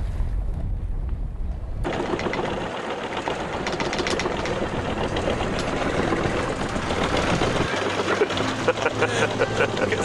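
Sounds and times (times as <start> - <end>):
wind: 0.0 - 10.0
fast mechanical rattle: 1.8 - 10.0
water noise: 1.8 - 10.0.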